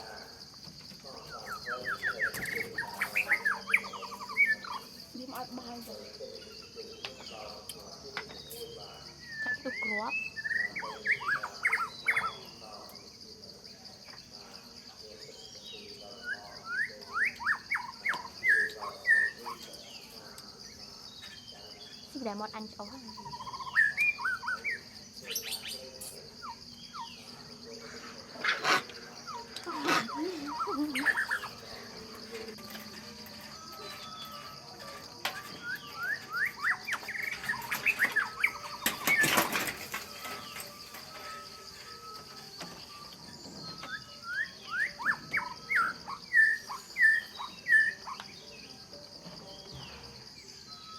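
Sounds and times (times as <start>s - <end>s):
high insect drone: 0.0s - 50.9s
bird chirping and trilling: 1.0s - 12.9s, 14.7s - 48.8s.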